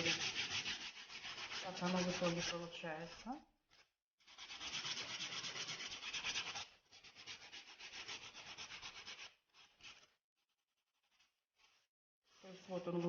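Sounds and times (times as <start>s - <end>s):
abrasive rasping on tile: 0.0s - 13.0s.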